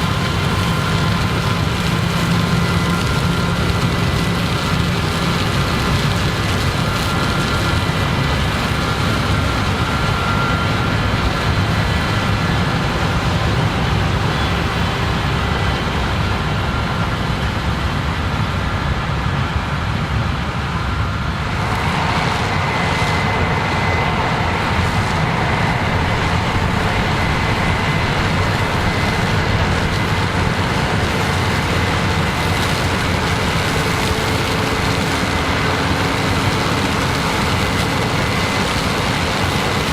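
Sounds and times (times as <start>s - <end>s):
faint steady whine: 0.0s - 39.9s
farm machinery engine rumble: 0.0s - 39.9s.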